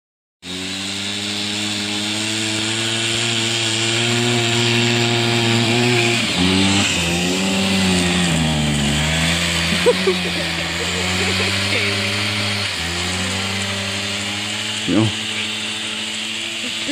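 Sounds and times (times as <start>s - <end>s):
small snowmobile engine running: 0.4s - 16.9s.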